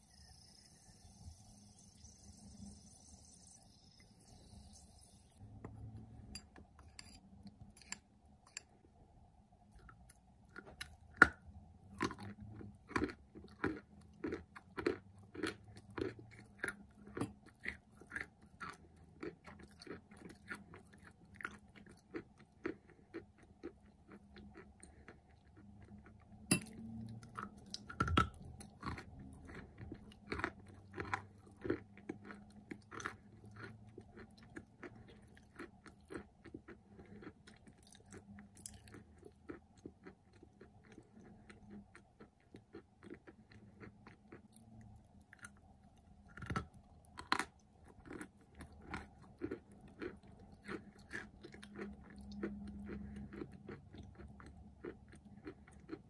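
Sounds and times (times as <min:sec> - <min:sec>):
crunching bites and chewing: 0:09.8 - 0:56.0.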